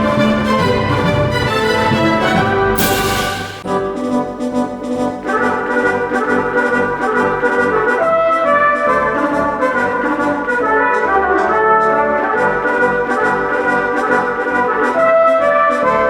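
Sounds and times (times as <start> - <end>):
brass music with held notes: 0.0 - 16.0.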